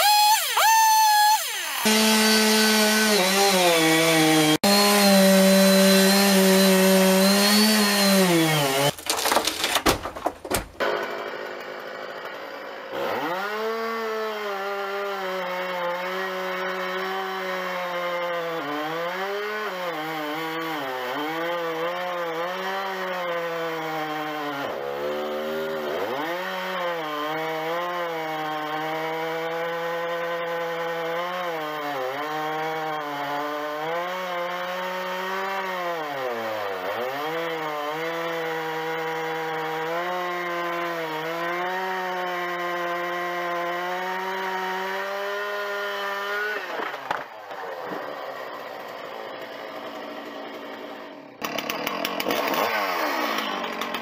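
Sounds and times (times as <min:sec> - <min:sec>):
chainsaw cutting through trunk: 0:00.0 - 0:54.0.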